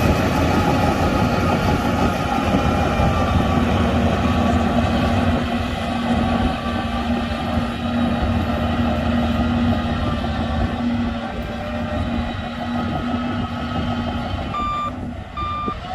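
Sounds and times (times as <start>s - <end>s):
bulldozer diesel engine running: 0.0s - 15.9s.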